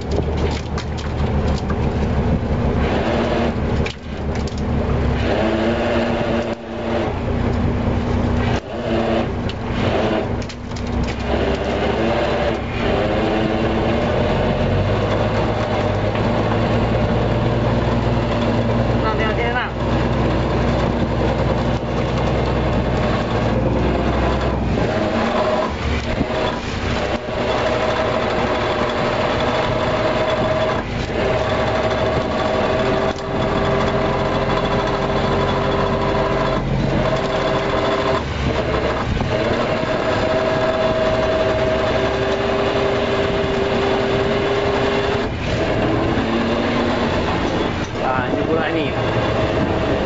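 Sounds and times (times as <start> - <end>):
boat engine deep hum: 0.0 - 50.0
lower machinery whine: 0.0 - 50.0
steady machinery whine: 2.2 - 50.0.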